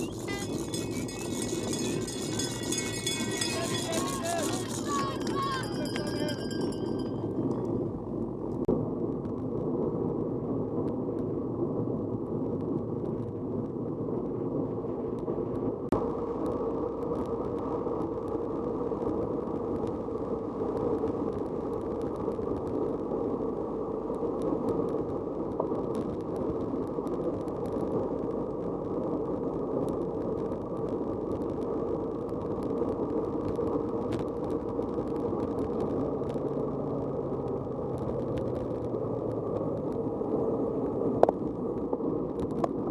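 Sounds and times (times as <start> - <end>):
wind and tyre noise: 0.0 - 42.9.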